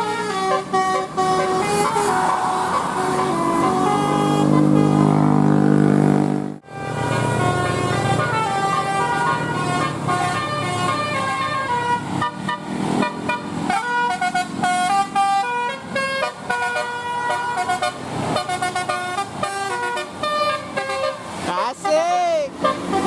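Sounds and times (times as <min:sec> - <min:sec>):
musical air horn tune: 0:00.0 - 0:23.0.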